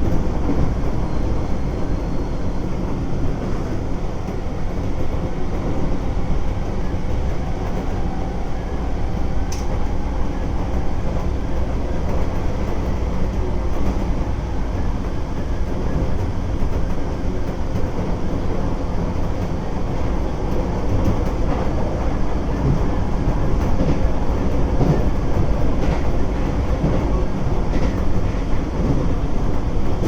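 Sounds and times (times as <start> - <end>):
electric train rumbling: 0.0 - 30.0.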